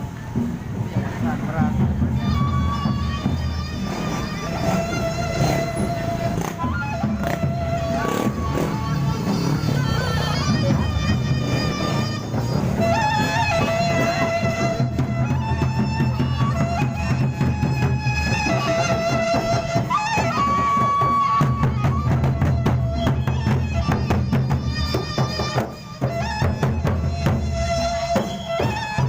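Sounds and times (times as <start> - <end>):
large drums beating: 0.0 - 29.0
reed wind instrument melody: 0.0 - 29.0.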